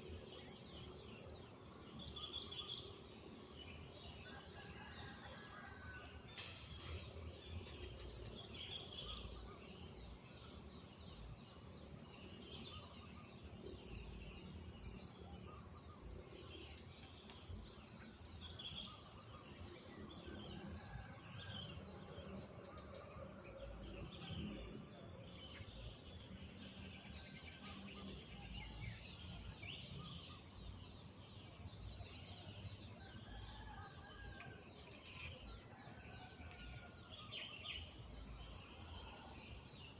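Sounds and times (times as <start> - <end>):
insects humming: 0.0 - 5.8, 6.5 - 39.9.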